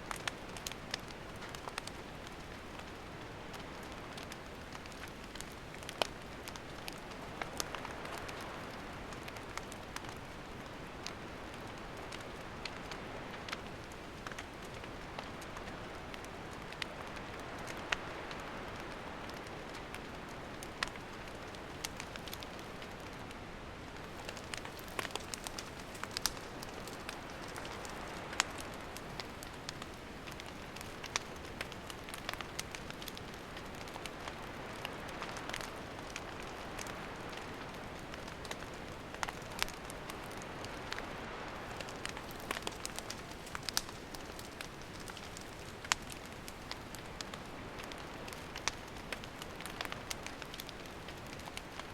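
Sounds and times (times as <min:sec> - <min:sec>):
campfire hissing: 0:00.0 - 0:51.9
firewood crackling and popping: 0:00.0 - 0:51.9.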